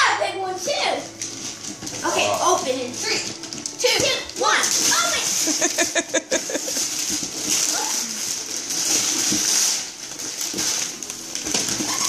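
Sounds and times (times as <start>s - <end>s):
wrapping paper tearing: 0.9s - 12.0s.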